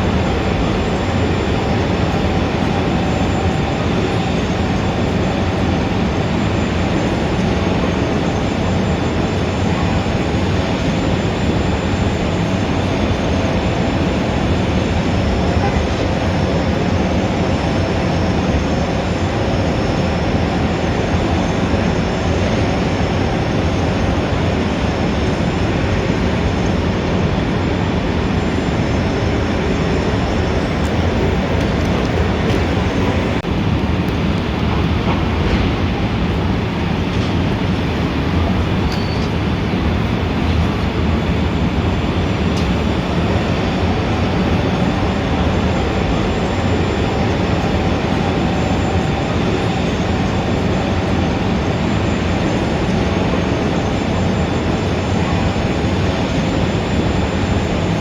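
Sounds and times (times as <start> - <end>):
dense city traffic rumble: 0.0 - 58.0.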